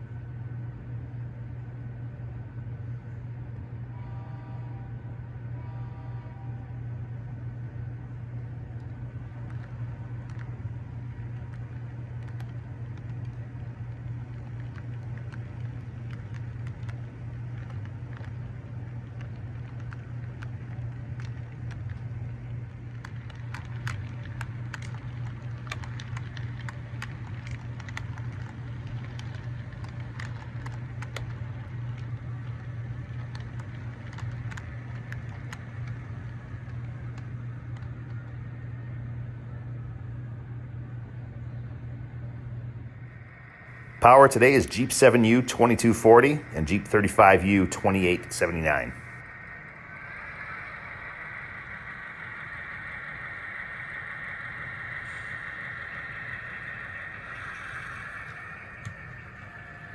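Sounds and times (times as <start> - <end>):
model locomotive diesel engine drone: 0.0 - 59.9
small sharp clicks and ticks: 7.2 - 40.3, 43.1 - 59.9.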